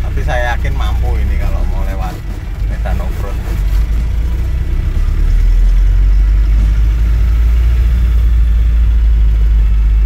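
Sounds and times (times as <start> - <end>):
car engine rumble passing: 0.0 - 10.0.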